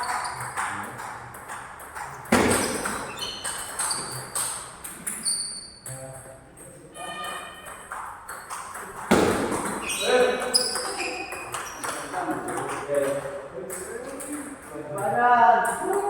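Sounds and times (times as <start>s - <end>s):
table tennis ball pinging: 0.0s - 5.8s, 6.9s - 16.0s.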